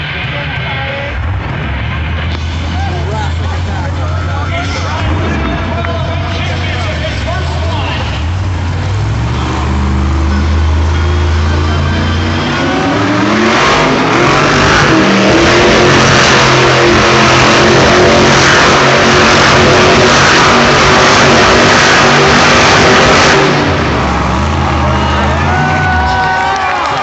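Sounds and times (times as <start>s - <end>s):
loud rushing noise: 0.0s - 27.0s
monster truck engine revving: 0.0s - 27.0s.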